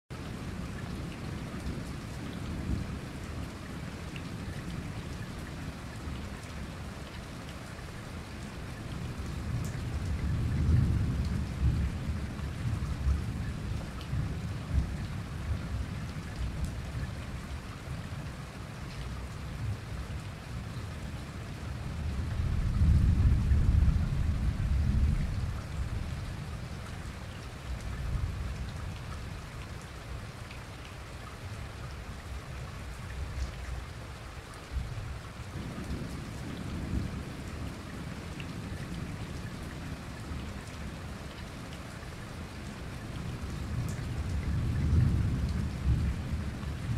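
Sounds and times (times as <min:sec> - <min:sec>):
heavy rain pouring: 0:00.1 - 0:46.9.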